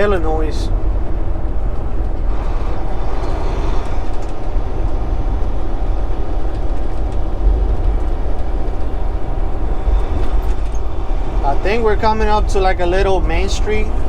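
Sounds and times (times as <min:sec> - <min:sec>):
road noise: 0:00.0 - 0:14.0
truck diesel engine rumble: 0:00.0 - 0:14.0.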